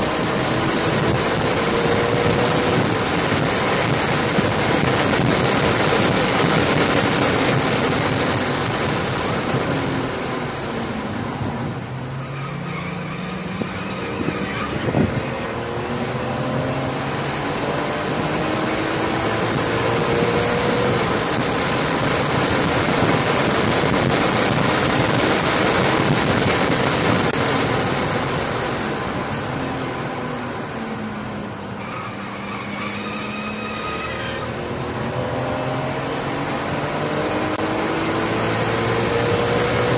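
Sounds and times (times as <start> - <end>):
car engine at high revs: 0.0 - 39.9
wind and road noise: 0.0 - 39.9.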